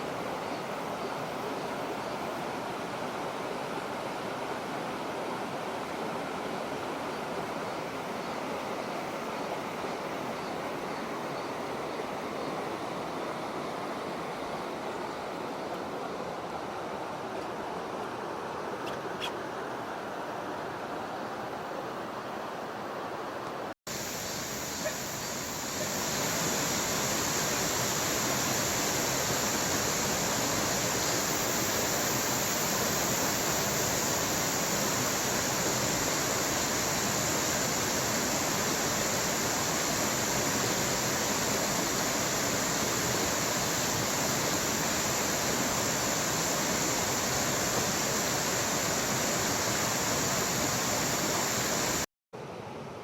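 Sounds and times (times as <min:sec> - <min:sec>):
stream rushing: 0:00.0 - 0:53.0.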